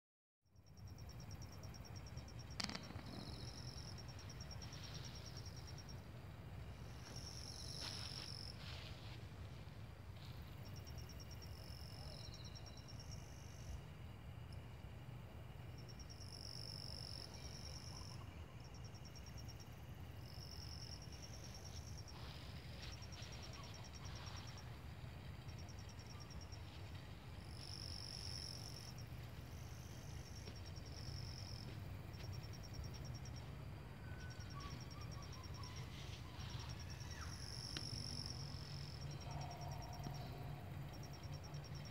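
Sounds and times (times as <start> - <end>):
faint low rumble: 0.5 - 41.9
insects trilling: 0.6 - 9.2, 15.6 - 41.9.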